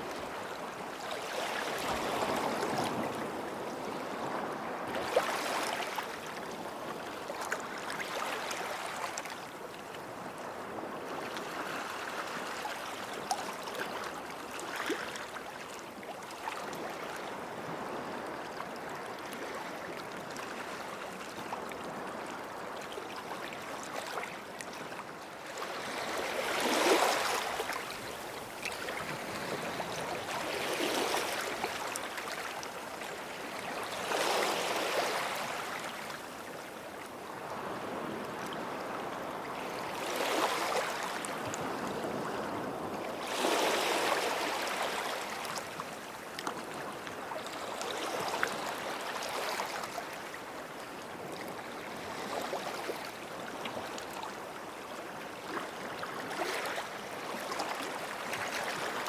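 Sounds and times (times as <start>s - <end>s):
small waves breaking on shore: 0.0s - 59.0s.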